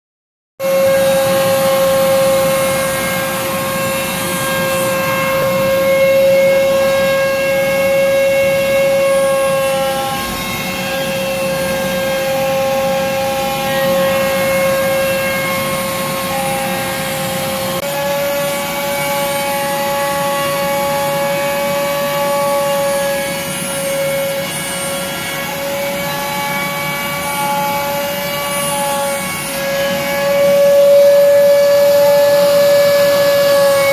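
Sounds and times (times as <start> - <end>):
router spindle whining: 0.6 - 33.9.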